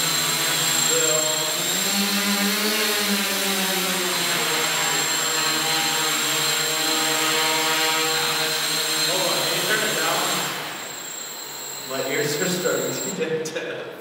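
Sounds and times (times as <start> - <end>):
quadcopter motors whining: 0.0 - 13.2.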